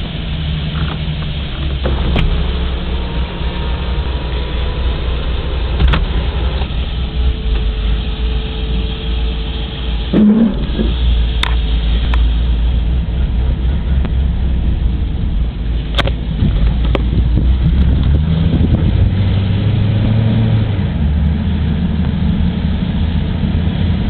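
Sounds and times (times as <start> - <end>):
car exhaust rumble: 0.0 - 24.0.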